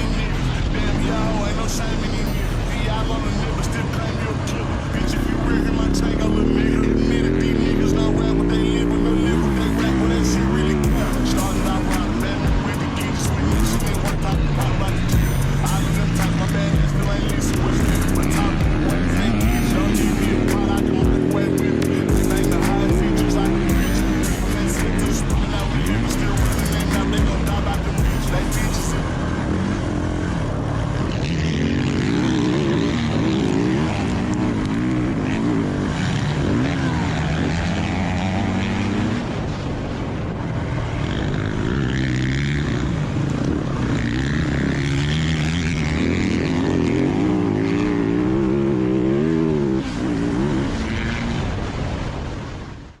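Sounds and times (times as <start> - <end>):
dirt bike engine revving: 0.0 - 52.3.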